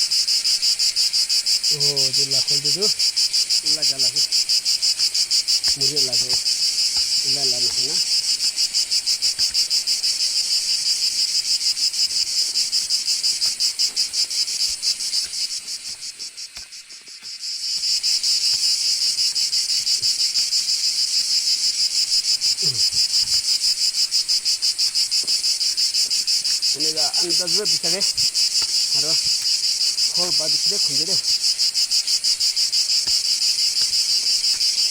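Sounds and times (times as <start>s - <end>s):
cicadas buzzing: 0.0s - 34.9s.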